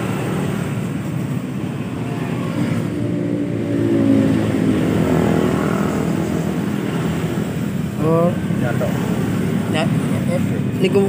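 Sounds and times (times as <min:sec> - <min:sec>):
passing vehicle: 0:00.0 - 0:11.0.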